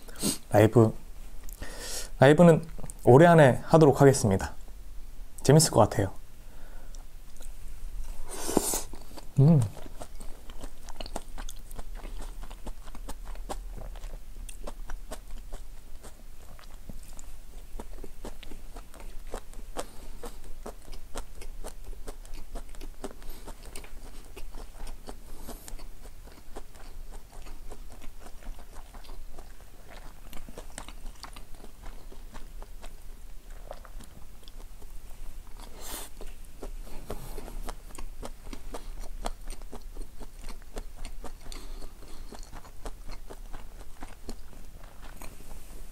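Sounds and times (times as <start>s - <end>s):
person chewing food: 6.7s - 45.9s.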